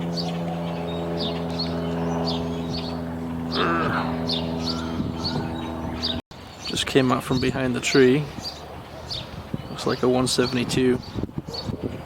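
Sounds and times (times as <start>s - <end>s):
propeller plane droning overhead: 0.0s - 12.0s
small birds chirping: 0.0s - 12.0s.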